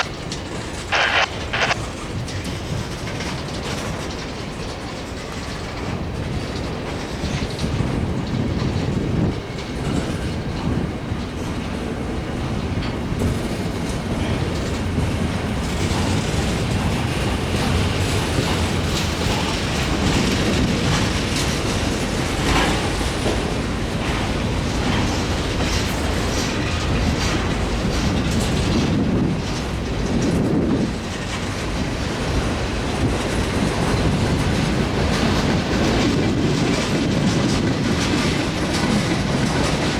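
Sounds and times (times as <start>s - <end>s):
freight train wheels clicking: 0.0s - 39.9s.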